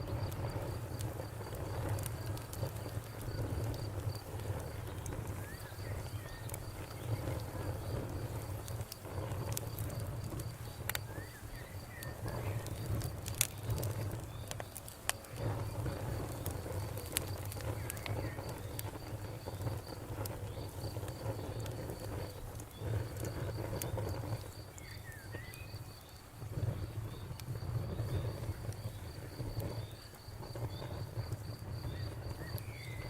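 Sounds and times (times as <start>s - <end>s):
campfire crackling and popping: 0.0s - 33.0s
cricket chirping: 0.0s - 33.0s.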